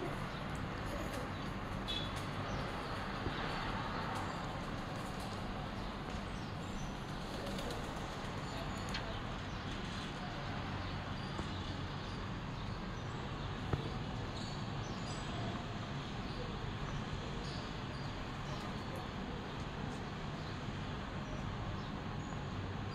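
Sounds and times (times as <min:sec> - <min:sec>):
city traffic hum: 0:00.0 - 0:22.9.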